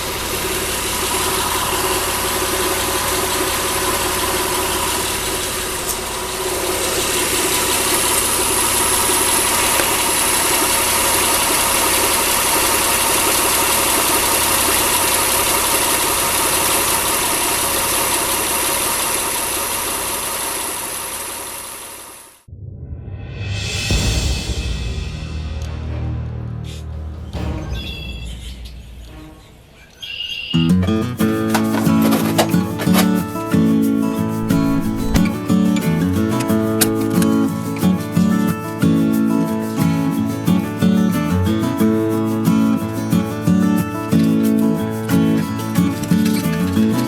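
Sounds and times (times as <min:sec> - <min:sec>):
car engine idling: 0:00.0 - 0:22.2, 0:30.6 - 0:47.0.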